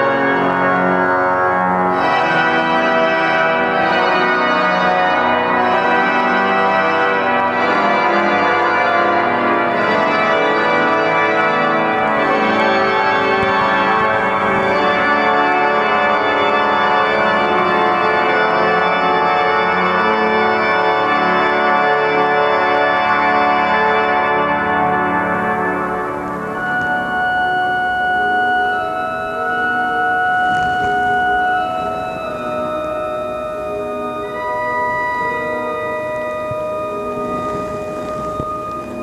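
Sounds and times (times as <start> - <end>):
pipe organ playing chords: 0.0 - 39.0.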